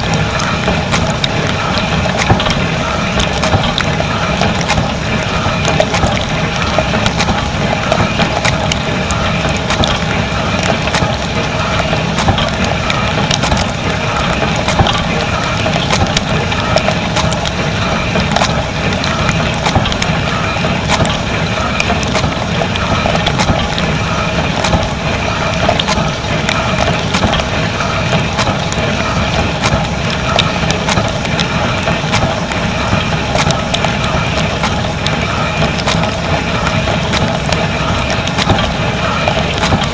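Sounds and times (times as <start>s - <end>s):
steady pump hum: 0.0s - 39.9s
ticks of water striking: 0.0s - 39.9s.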